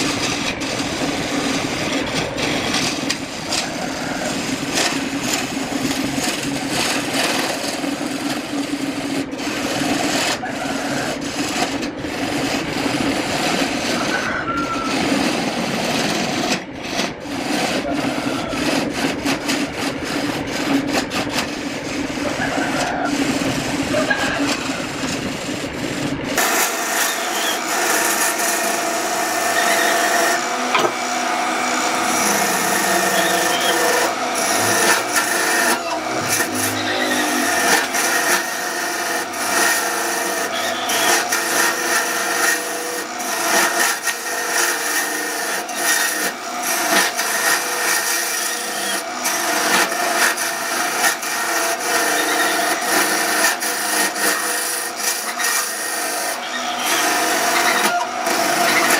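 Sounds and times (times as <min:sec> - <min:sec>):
wood lathe humming: 0:00.0 - 0:58.9
wood scraping on lathe: 0:00.0 - 0:58.9.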